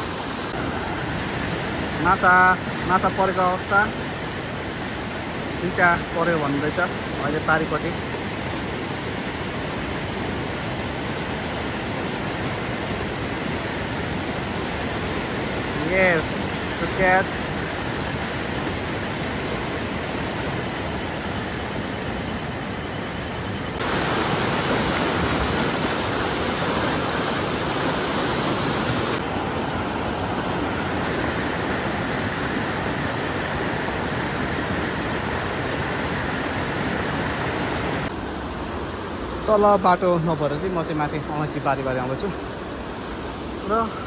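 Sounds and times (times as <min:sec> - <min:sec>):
river rapids rushing: 0:00.0 - 0:44.0.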